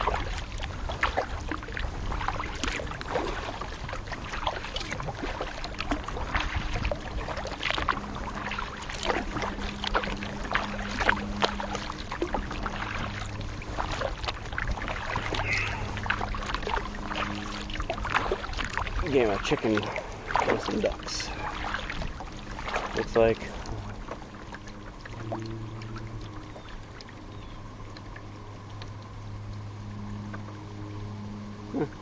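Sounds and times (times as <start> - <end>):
water dripping off paddle: 0.0 - 30.6
kayak paddle splashing: 0.0 - 32.0.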